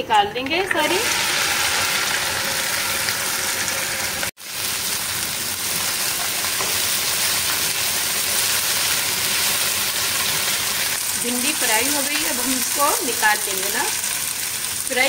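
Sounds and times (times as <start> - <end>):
okra sizzling in hot oil: 0.6 - 15.0.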